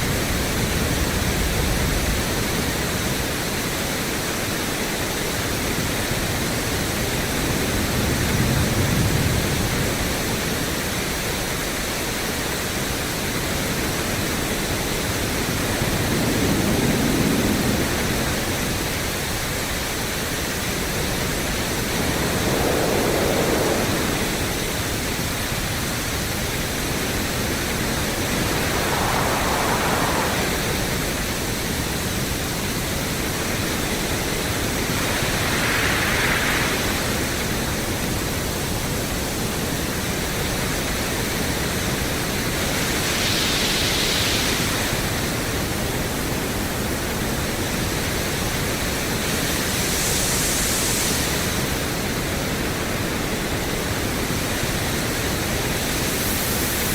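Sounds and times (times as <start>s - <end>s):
pink noise hiss: 9.8s - 56.9s.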